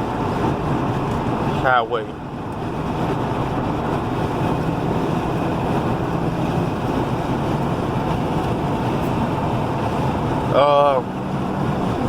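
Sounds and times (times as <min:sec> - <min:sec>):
car engine drone: 0:00.0 - 0:12.0
road and wind noise: 0:00.0 - 0:12.0.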